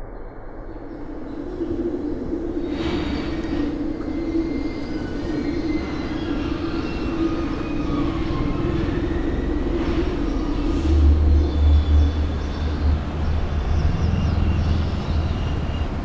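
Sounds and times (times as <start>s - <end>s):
low drone with rumble: 0.0s - 16.0s.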